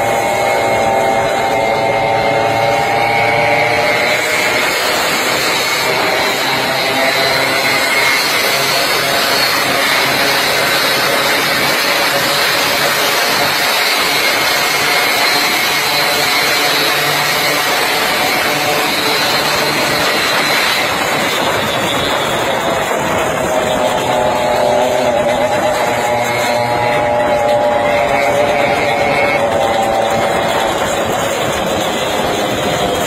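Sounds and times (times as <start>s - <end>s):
heavy wind noise: 0.0s - 33.0s
motorcycle engines: 0.0s - 33.0s.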